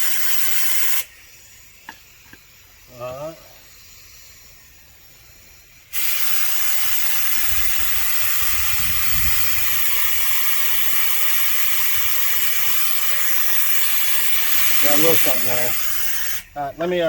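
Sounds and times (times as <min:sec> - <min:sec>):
compressed air hissing: 0:00.0 - 0:17.0.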